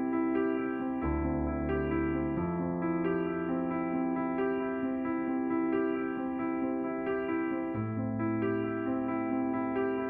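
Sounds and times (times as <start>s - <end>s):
gentle electric piano: 0.0s - 10.0s.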